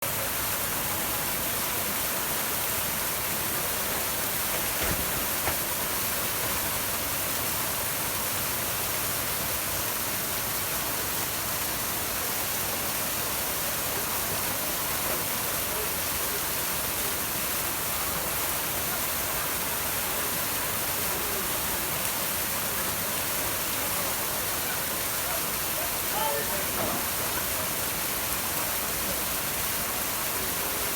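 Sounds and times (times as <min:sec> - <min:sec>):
falling water rushing: 0:00.0 - 0:30.9.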